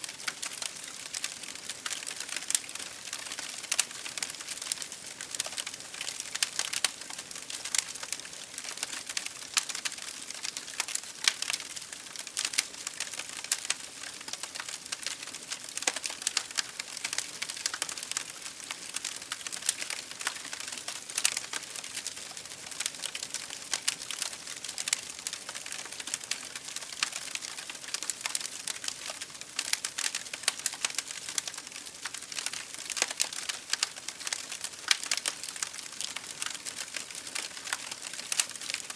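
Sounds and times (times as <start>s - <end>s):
wood fire crackling and popping: 0.1s - 38.9s.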